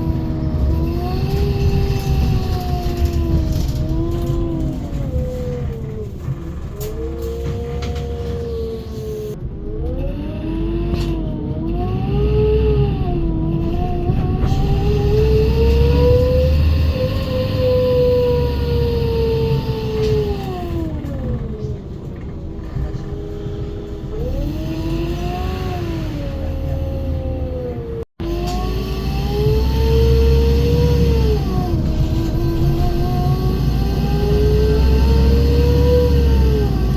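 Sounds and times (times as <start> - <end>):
bus engine drone: 0.0 - 36.9.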